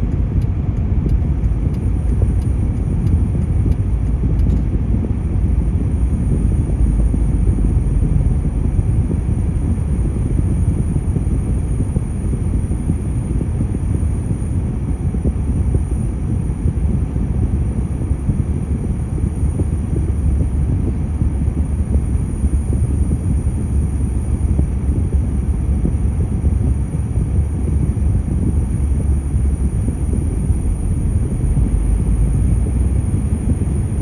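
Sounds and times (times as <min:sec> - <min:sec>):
car interior road and engine rumble: 0:00.0 - 0:34.0.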